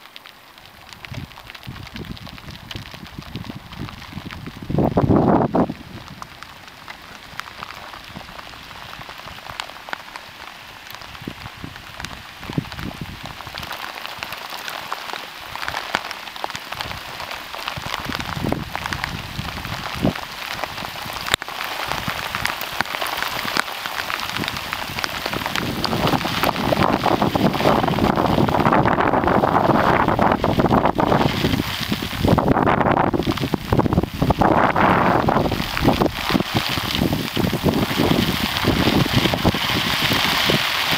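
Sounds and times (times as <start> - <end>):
rain falling on river: 0.0 - 40.9.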